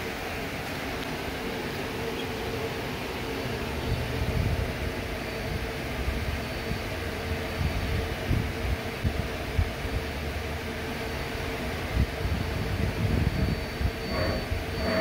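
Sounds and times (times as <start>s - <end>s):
machining center humming: 0.0s - 15.0s.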